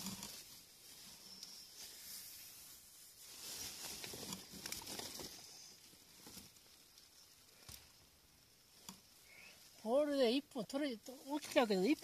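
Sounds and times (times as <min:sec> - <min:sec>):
tent fabric rustling: 0:00.0 - 0:12.0.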